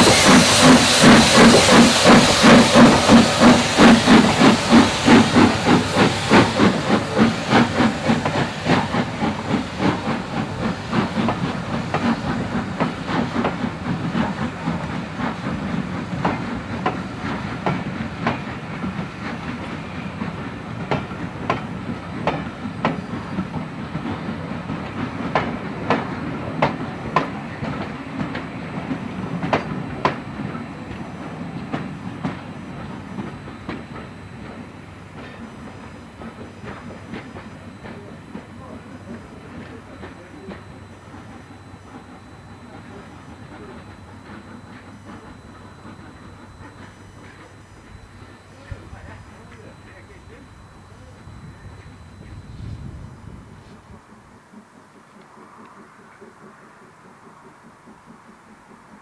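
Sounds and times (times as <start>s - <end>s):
train wheels clicking over rail joints: 0.0s - 52.5s, 53.6s - 59.0s
steam hiss: 0.0s - 59.0s
steam locomotive exhaust beats: 0.0s - 59.0s.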